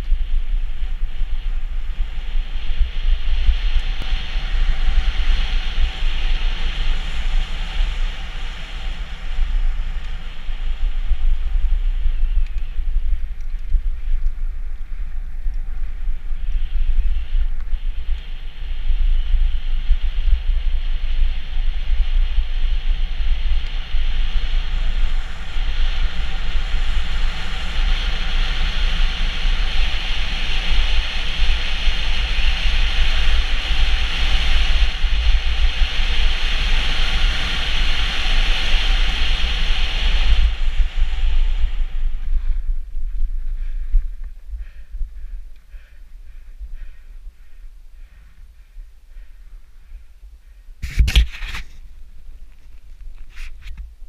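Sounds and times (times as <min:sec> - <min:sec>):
bike tyres rolling on dirt: 0:00.0 - 0:50.0
wind buffeting microphone: 0:00.0 - 0:54.0.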